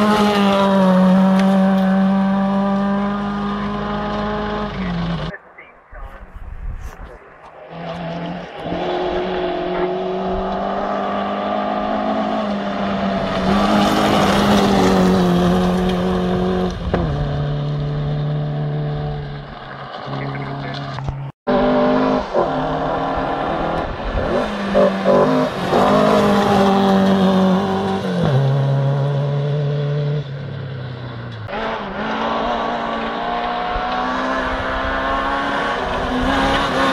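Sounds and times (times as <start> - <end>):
rally car engine at full throttle: 0.0 - 6.2, 6.8 - 36.9.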